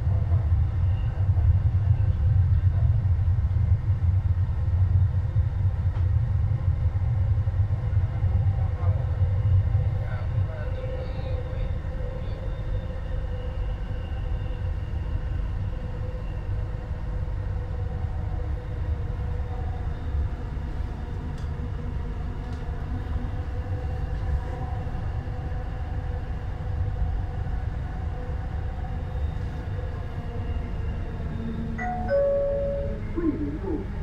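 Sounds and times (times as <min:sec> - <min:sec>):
train wheels rumbling on rail: 0:00.0 - 0:32.1
train whine: 0:00.0 - 0:34.0.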